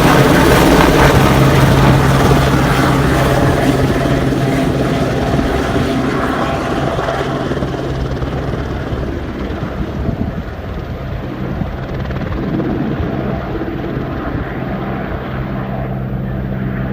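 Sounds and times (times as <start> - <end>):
helicopter rotor and turbine: 0.0 - 16.9.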